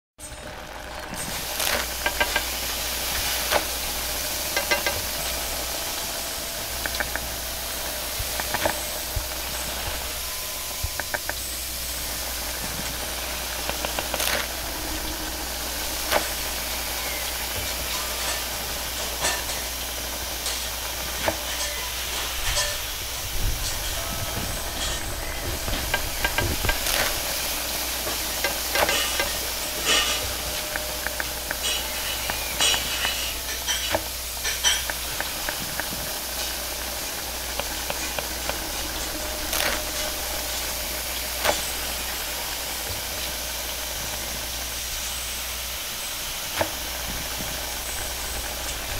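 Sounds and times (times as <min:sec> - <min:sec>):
egg frying: 0:00.2 - 0:48.9
gas flame: 0:00.2 - 0:48.9
hot wok hissing and sizzling: 0:00.2 - 0:48.9
brush and utensils scraping wok: 0:00.3 - 0:48.9.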